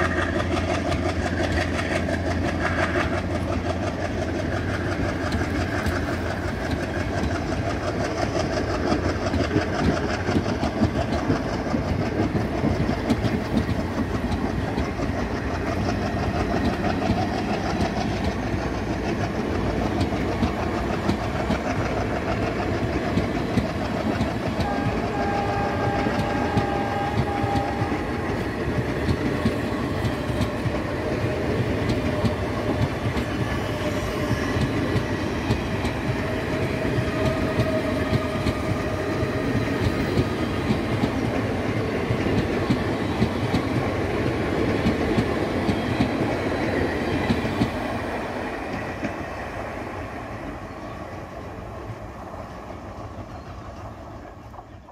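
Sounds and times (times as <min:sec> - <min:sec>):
train wheels clattering over rail joints: 0:00.0 - 0:49.5.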